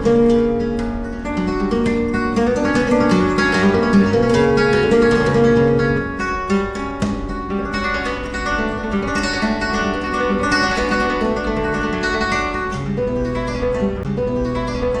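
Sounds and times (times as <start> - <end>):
solo flamenco guitar: 0.0 - 15.0.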